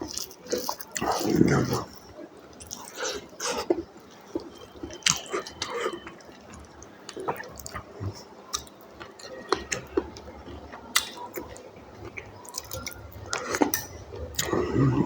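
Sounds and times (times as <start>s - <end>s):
wet chewing and mouth-smacking: 0.0s - 15.0s.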